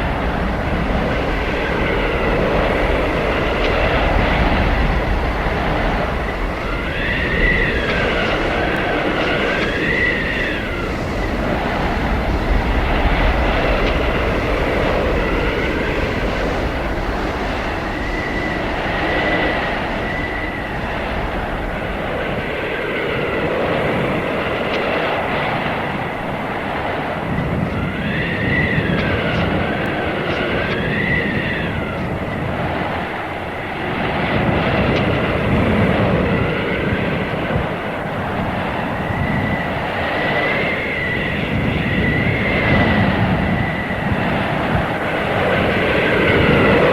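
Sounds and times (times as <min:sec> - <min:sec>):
blizzard wind howling: 0:00.0 - 0:46.9.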